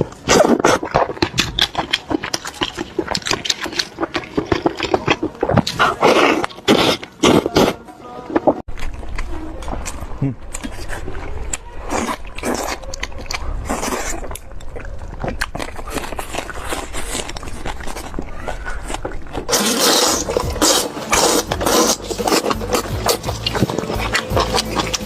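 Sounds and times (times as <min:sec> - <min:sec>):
chewing and crunching chicken: 0:00.0 - 0:25.0.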